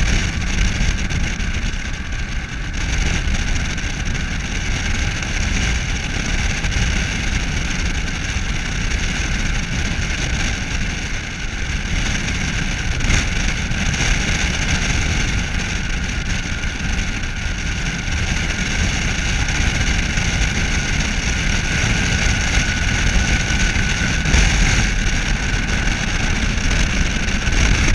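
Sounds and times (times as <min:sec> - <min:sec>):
tyre and wind noise: 0:00.0 - 0:27.9.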